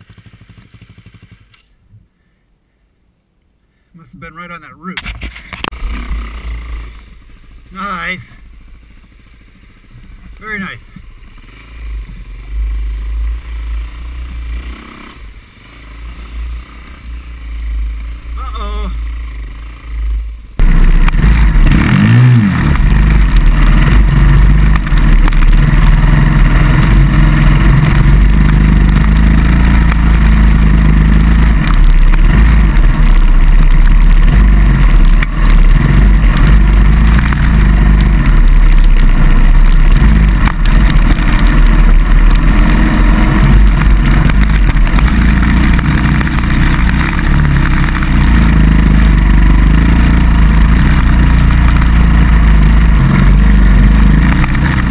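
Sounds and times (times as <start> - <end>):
dirt bike engine revving: 0.0 - 1.7, 4.5 - 54.9.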